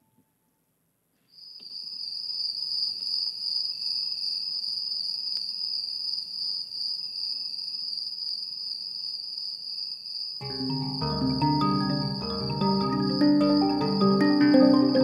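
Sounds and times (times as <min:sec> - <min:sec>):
crickets chirring: 0:01.3 - 0:15.0.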